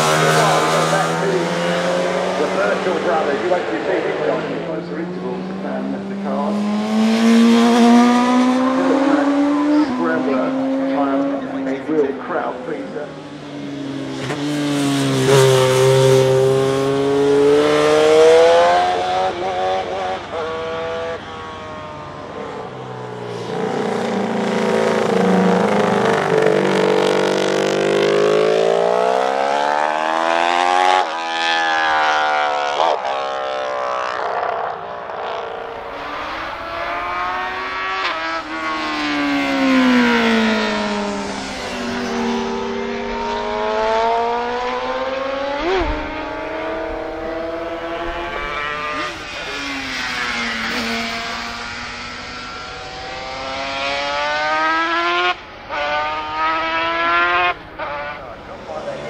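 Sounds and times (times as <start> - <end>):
racing motorcycle engines revving: 0.0 - 59.0.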